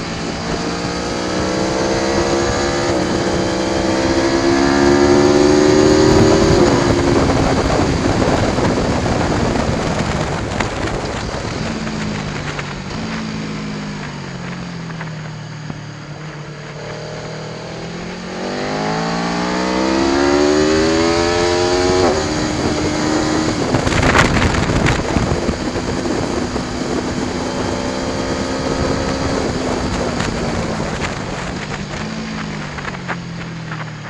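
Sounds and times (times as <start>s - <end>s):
loud wind rush: 0.0s - 34.0s
motorcycle engine accelerating: 0.0s - 34.0s.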